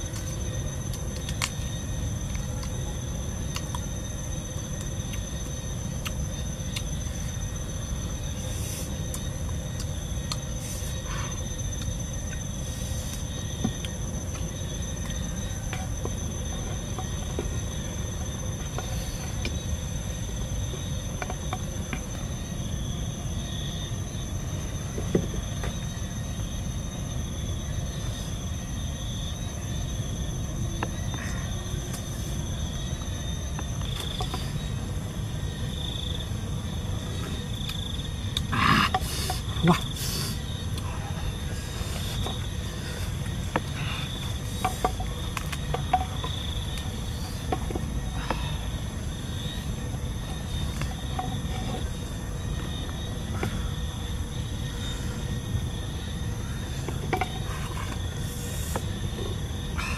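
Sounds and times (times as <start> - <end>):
insect drone: 0.0 - 59.9.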